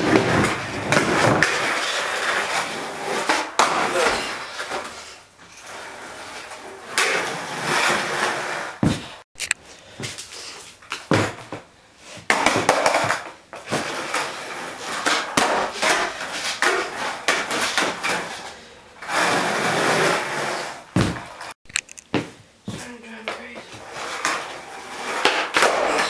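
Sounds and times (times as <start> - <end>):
skateboard wheels on concrete: 0.0 - 26.0.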